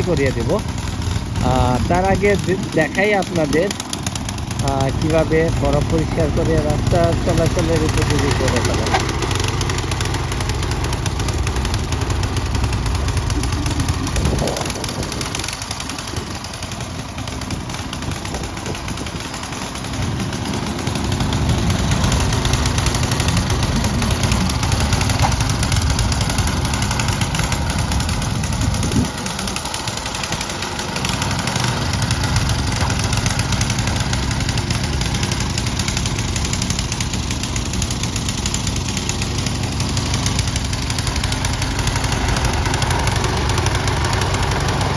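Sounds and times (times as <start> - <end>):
snow blower engine running: 0.0 - 44.9.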